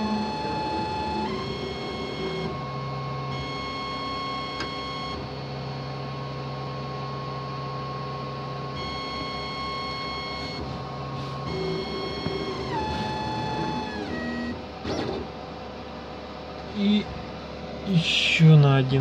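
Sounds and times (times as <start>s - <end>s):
laser cutter motors whining: 0.0s - 15.4s.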